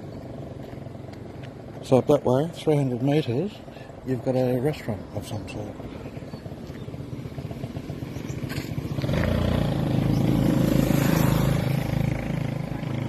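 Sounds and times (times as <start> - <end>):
motor vehicle engine running: 0.0 - 13.0.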